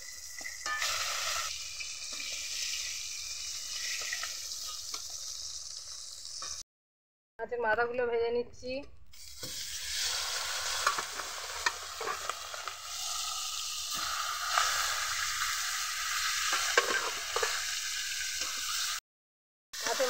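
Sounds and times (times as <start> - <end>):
fish sizzling in hot oil: 0.0 - 6.6, 9.2 - 19.0, 19.8 - 20.0.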